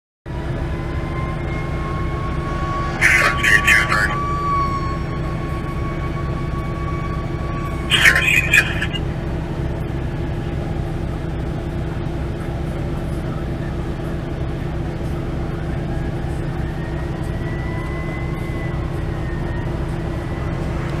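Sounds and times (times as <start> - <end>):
traffic noise: 0.3 - 21.0
vehicle engine idling: 0.3 - 21.0.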